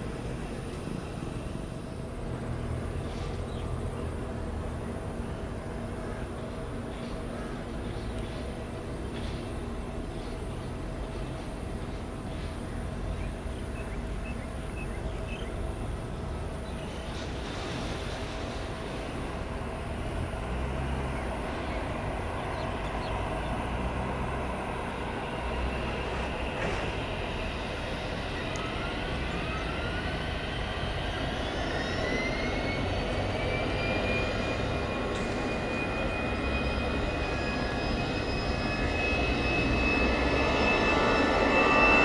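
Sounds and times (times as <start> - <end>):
jet engines spooling up: 0.0 - 42.0.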